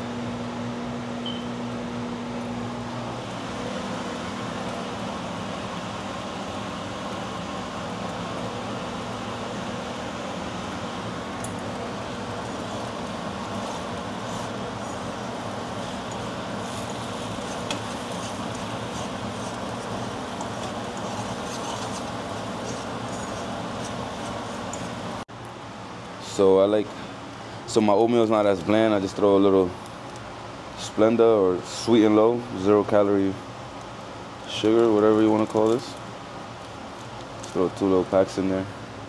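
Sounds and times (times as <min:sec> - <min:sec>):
air-conditioning fan running: 0:00.0 - 0:39.0
low steady hum: 0:00.0 - 0:39.0.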